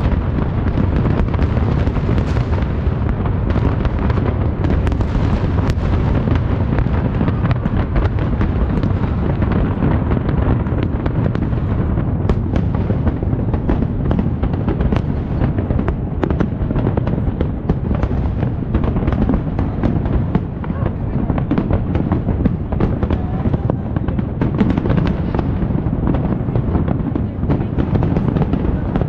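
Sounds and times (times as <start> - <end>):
fireworks cracks and pops: 0.0 - 29.0.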